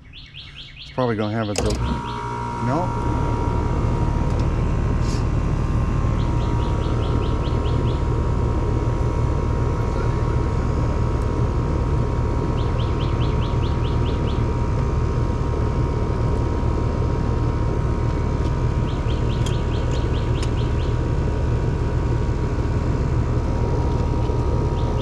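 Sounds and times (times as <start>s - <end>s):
air conditioner unit humming: 0.0s - 25.0s.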